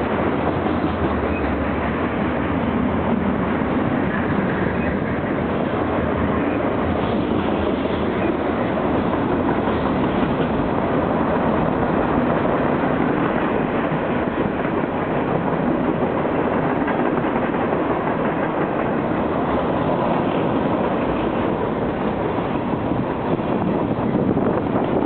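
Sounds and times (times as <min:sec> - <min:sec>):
clickety-clack over rail joints: 0:00.0 - 0:25.0
train wheels on rail: 0:00.0 - 0:25.0.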